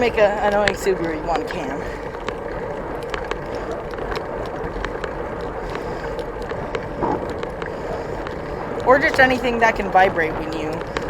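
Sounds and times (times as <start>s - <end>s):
bike rattling clicks: 0.0s - 11.0s
bike tyre and wind noise: 0.0s - 11.0s.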